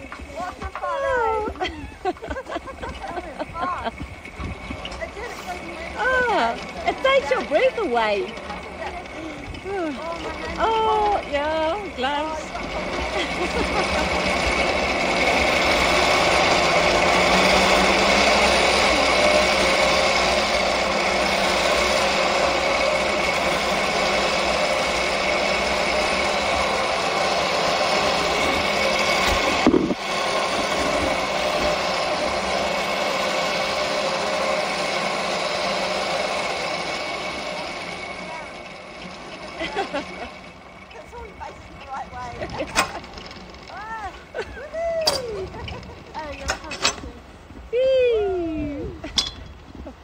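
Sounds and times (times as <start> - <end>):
zipline pulley whirring rattle: 0.0 - 50.0.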